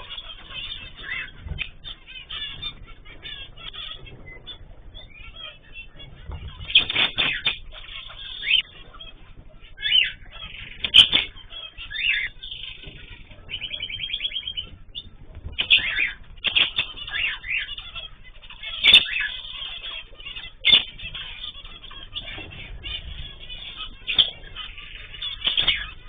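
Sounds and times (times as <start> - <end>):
cage birds chirping and trilling: 0.0 - 26.0
wings fluttering: 0.0 - 26.0.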